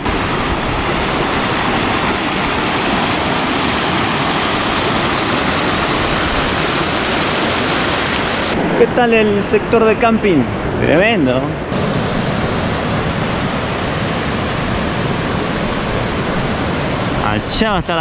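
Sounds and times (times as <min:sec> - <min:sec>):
fast-flowing water rushing: 0:00.0 - 0:18.0.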